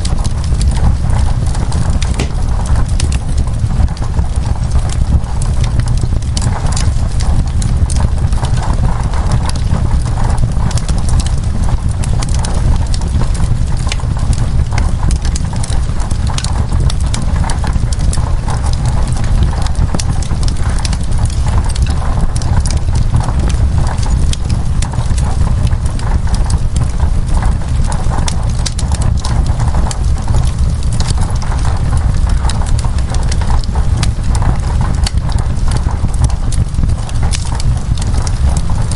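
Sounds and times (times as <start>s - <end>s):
rain on window glass: 0.0s - 38.9s
wood fire crackling: 0.0s - 38.9s.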